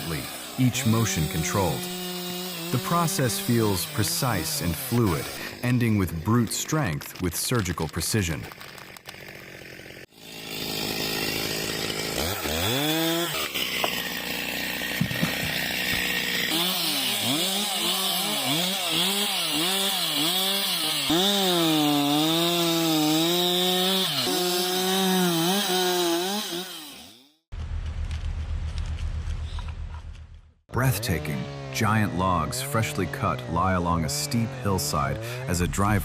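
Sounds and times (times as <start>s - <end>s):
chainsaw cutting wood: 0.0s - 27.4s, 30.8s - 36.0s.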